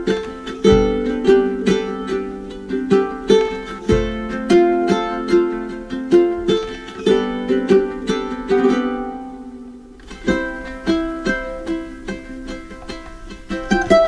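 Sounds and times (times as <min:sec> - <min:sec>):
plucked string instrument melody: 0:00.0 - 0:14.0.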